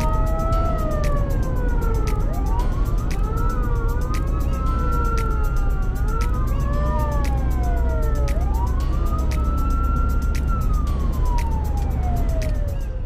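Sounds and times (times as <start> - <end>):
regular ticking clicks: 0.0 - 12.9
ambulance siren wailing: 0.0 - 13.0
engine and road rumble: 0.0 - 13.0.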